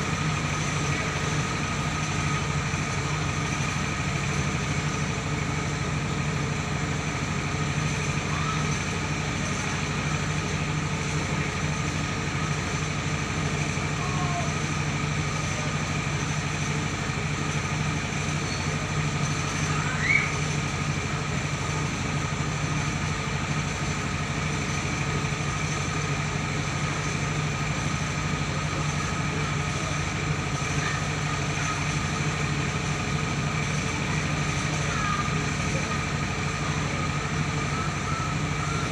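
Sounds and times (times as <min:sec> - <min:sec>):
engine drone: 0:00.0 - 0:38.9
high whine of milling machinery: 0:00.0 - 0:38.9.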